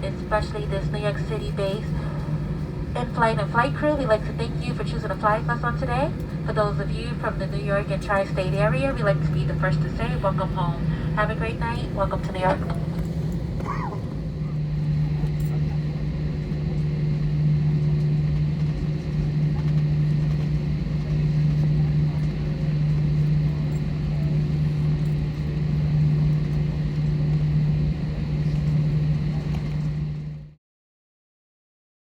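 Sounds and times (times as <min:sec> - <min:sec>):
airplane cabin engine hum: 0:00.0 - 0:30.6.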